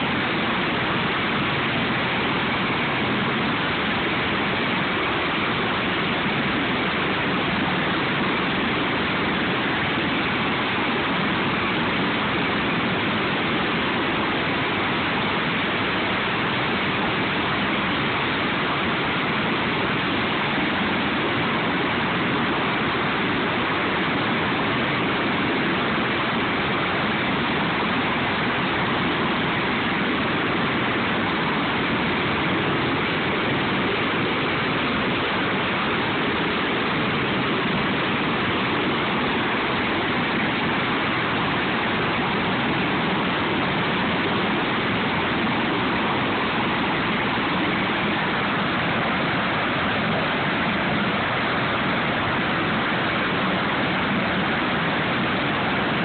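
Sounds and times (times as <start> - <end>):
helicopter turbine engines running: 0.0 - 56.0.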